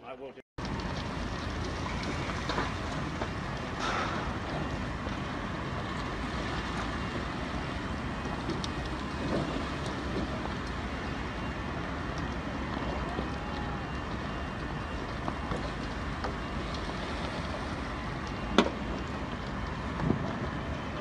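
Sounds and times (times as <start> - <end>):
low rumble and hiss: 0.0 - 21.0
wind buffeting microphone: 0.6 - 21.0.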